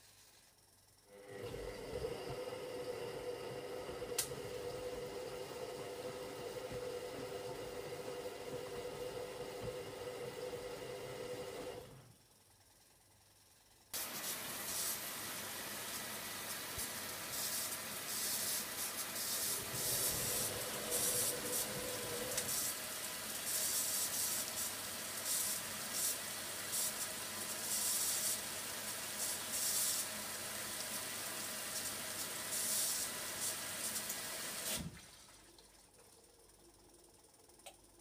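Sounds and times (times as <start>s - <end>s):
washing machine filling with water: 1.1s - 12.0s, 14.0s - 36.6s.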